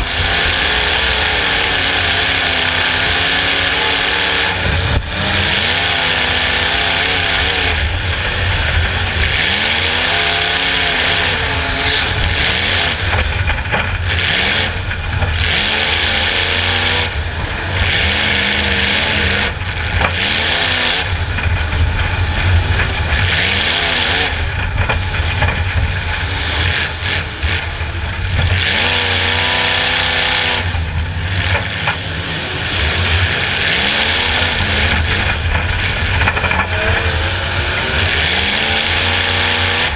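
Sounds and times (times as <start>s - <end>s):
car engine revving: 0.0s - 39.9s
steady noise and rattle: 0.0s - 39.9s.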